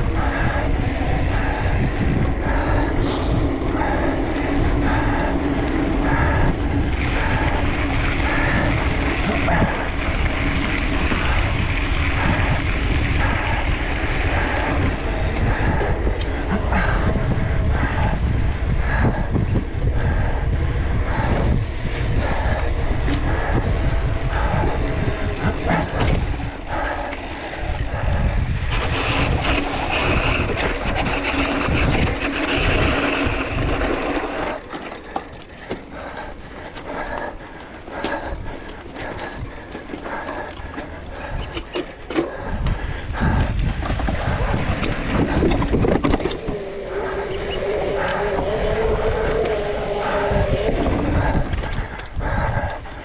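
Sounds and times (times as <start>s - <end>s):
bike rattling and knocking: 0.0s - 53.0s
wind buffeting the microphone: 0.0s - 53.0s.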